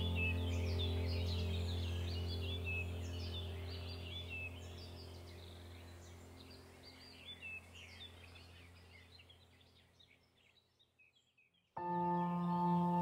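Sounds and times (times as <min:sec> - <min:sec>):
low hum: 0:00.0 - 0:09.2, 0:11.8 - 0:13.0
bird-like chirps: 0:00.0 - 0:13.0.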